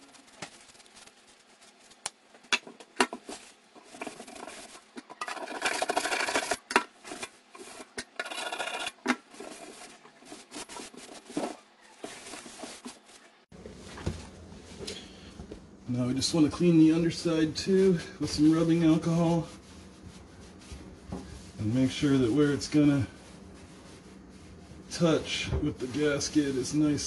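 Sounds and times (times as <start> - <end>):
paper towel scrubbing sink: 0.0 - 2.0, 2.6 - 14.8, 15.9 - 27.0.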